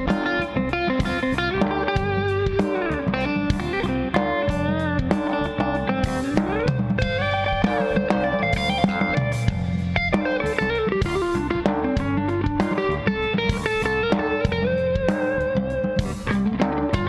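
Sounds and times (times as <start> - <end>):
bass: 0.0 - 17.0
drum kit: 0.0 - 17.0
electric guitar lead: 0.0 - 17.0.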